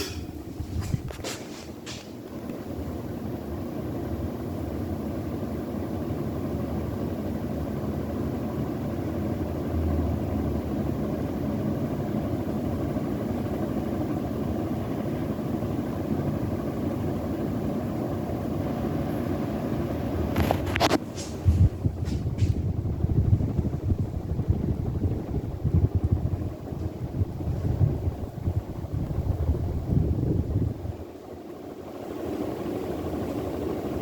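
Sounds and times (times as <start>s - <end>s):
ceiling fan humming: 0.0s - 34.0s.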